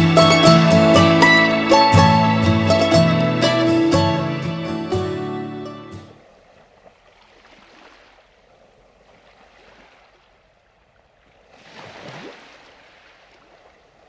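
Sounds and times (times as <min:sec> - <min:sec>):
sea water rushing and splashing: 0:00.0 - 0:14.0.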